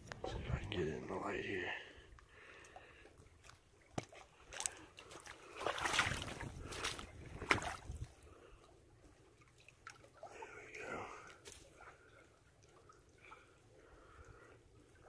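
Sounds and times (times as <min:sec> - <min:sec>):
creek water splashing: 0:02.3 - 0:15.0.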